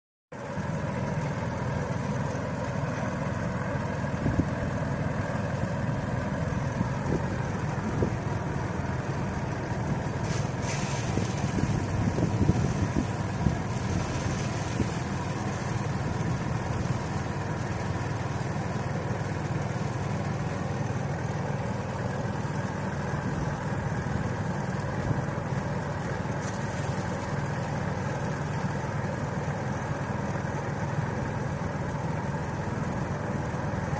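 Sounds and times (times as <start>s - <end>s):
thresher engine drone: 0.3s - 33.9s.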